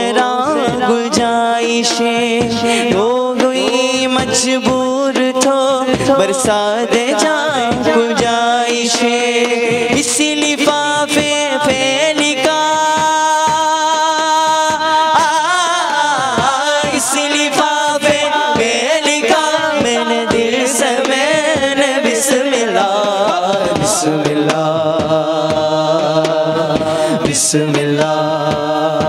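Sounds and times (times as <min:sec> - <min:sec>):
men singing in unison: 0:00.0 - 0:29.0.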